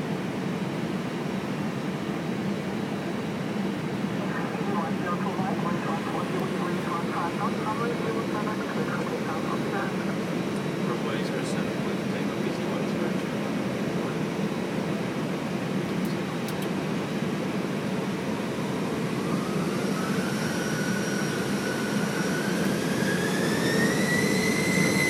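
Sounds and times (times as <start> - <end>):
jet engine and air conditioning hum: 0.0 - 25.0
jet engine whine rising: 0.0 - 25.0.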